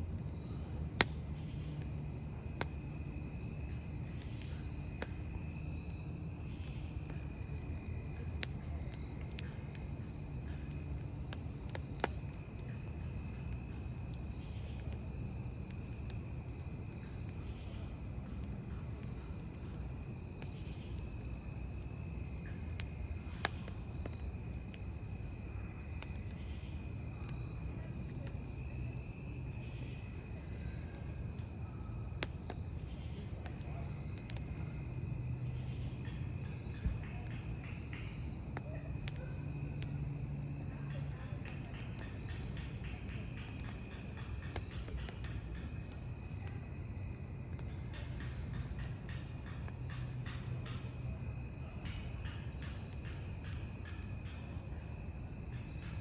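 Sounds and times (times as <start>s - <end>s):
campfire burning: 0.0s - 56.0s
crickets trilling: 0.0s - 56.0s
burning wood popping: 0.1s - 29.0s, 30.1s - 54.8s.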